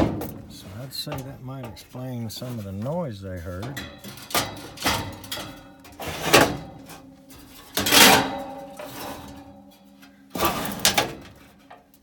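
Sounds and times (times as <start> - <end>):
metal scraping and rattling: 0.0 - 12.0.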